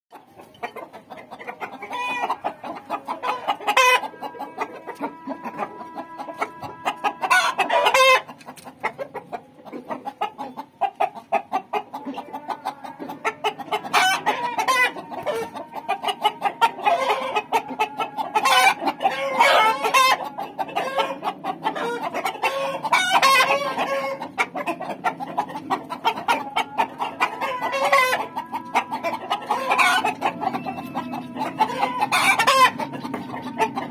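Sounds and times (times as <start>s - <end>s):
chickens clucking: 0.1s - 33.9s
loud chicken calls: 0.1s - 33.9s.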